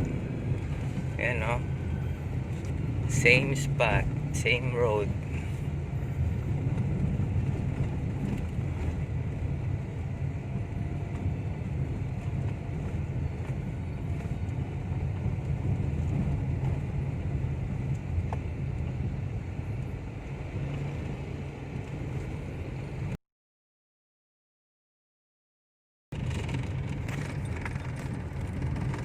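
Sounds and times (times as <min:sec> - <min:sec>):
car road and engine rumble: 0:00.0 - 0:23.2, 0:26.1 - 0:29.0.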